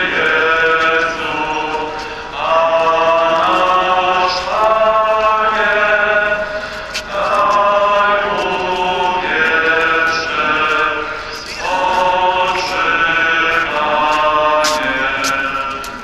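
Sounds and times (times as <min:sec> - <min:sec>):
voices singing slow chant: 0:00.0 - 0:16.0.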